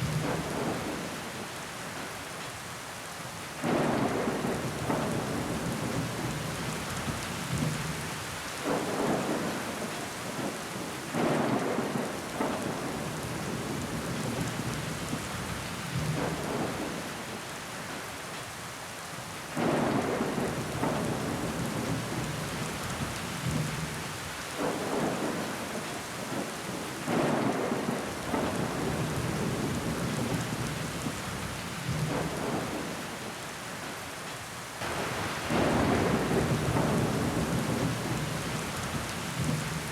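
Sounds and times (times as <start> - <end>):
rain on window glass: 0.0 - 39.9.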